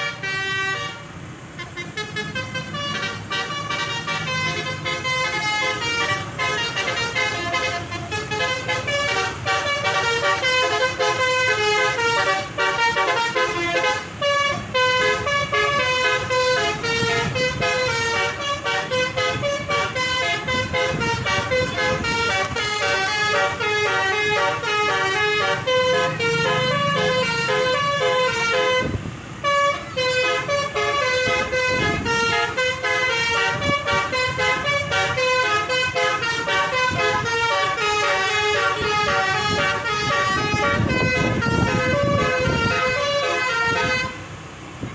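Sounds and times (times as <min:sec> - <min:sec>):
multi-tone air horns playing melody: 0:00.0 - 0:44.6.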